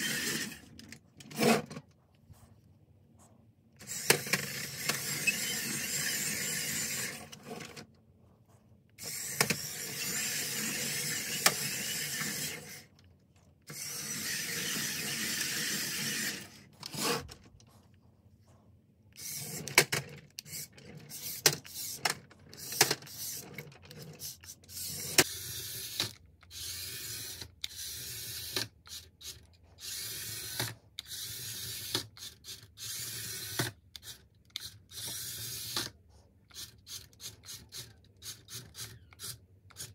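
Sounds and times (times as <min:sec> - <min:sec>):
toy car motors whirring: 0:00.0 - 0:01.7, 0:03.8 - 0:07.9, 0:09.0 - 0:13.1, 0:13.7 - 0:17.4, 0:19.2 - 0:39.9.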